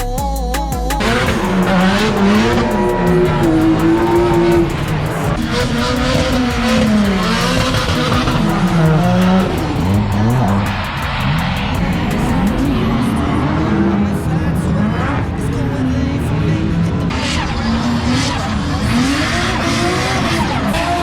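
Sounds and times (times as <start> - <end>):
music track: 0.0 - 21.0
car engines revving: 1.0 - 21.0.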